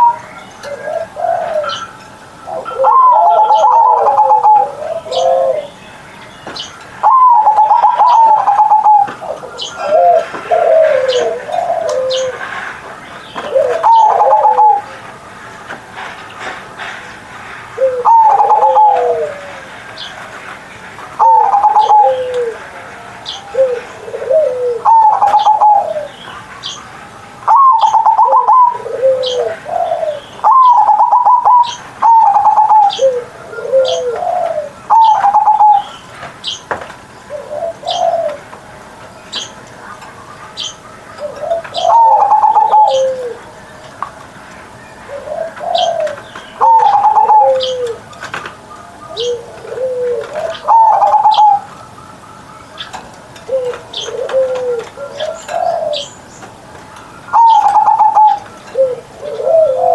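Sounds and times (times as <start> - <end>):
dove cooing: 0.0 - 5.9, 7.0 - 15.1, 17.8 - 19.8, 21.0 - 36.6, 37.2 - 38.8, 39.4 - 44.3, 44.9 - 59.9.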